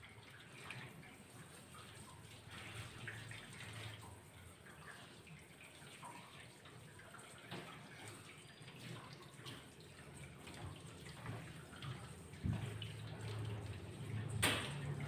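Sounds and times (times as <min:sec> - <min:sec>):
shower water splashing: 0:00.0 - 0:15.0.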